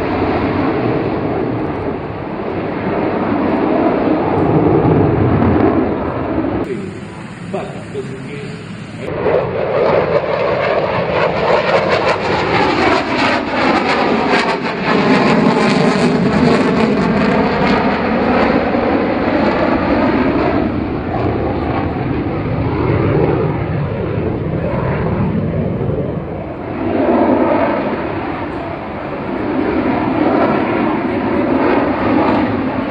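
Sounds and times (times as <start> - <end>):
jet engine flying past: 0.0 - 32.9.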